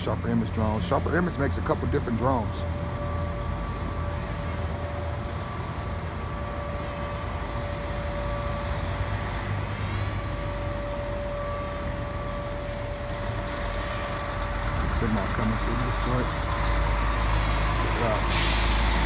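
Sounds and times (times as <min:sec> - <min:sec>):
droning hum: 0:00.0 - 0:18.0
low engine rumble: 0:00.0 - 0:19.0.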